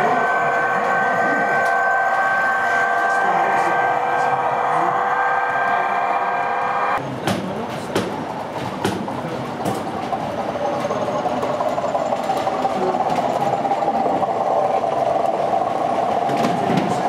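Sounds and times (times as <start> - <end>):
wheels clicking on track: 0.0 - 6.0, 6.9 - 17.0
model locomotive drone: 0.0 - 7.0, 9.1 - 17.0.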